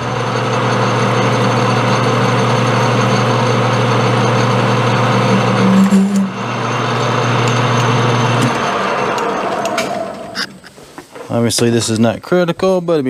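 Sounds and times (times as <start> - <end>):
metal lathe motor humming: 0.0 - 10.7.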